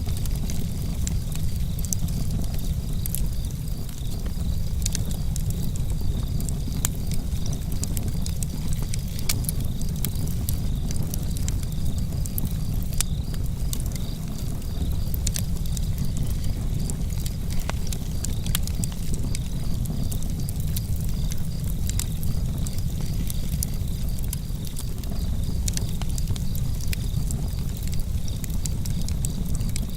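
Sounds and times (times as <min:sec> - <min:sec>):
crickets chirping: 0:00.0 - 0:29.9
wood fire crackling and popping: 0:00.0 - 0:29.9.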